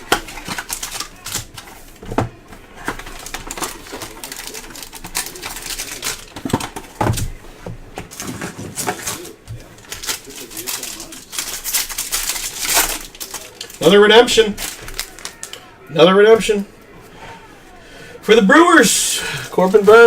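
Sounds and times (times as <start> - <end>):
card packs crinkling and rustling: 0.0 - 17.1, 18.4 - 20.0.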